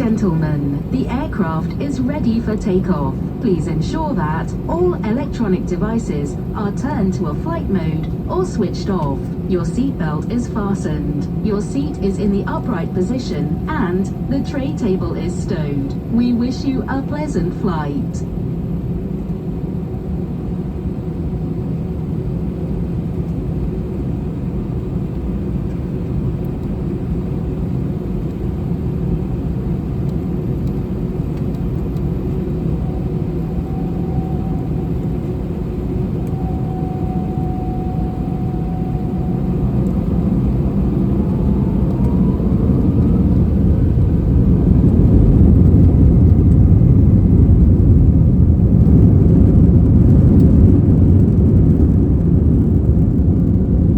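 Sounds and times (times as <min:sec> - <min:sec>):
jet engine rumble in cabin: 0:00.0 - 0:53.9
jet engine whine rising: 0:00.0 - 0:53.9.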